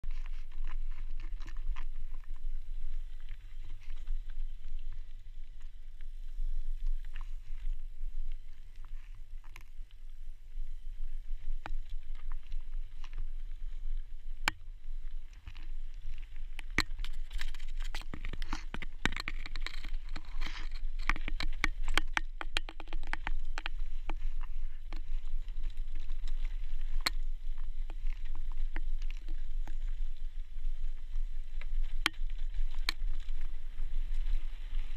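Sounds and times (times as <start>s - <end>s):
wind on microphone: 0.0s - 34.9s.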